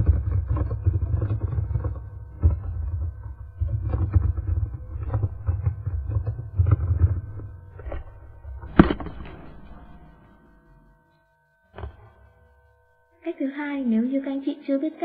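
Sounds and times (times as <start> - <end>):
instrumental music with deep bass: 0.0 - 13.2.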